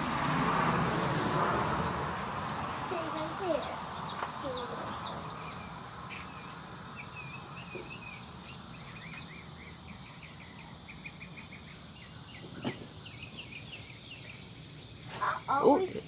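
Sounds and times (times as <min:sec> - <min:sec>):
outdoor background noise: 0:00.0 - 0:16.0
songbird chirping: 0:00.3 - 0:16.0.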